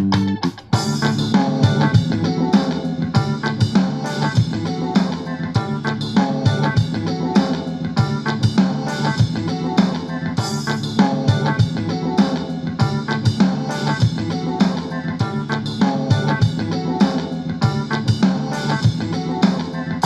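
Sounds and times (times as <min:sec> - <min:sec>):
music through portable speaker: 0:00.0 - 0:20.0.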